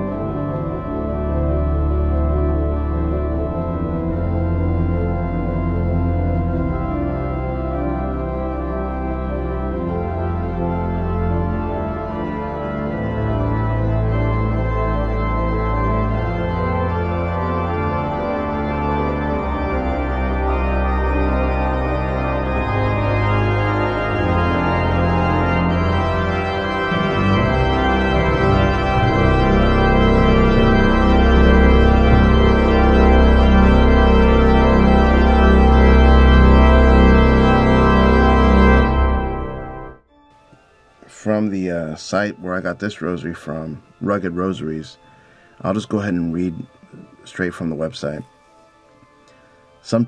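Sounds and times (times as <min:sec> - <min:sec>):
organ chords: 0:00.0 - 0:50.0.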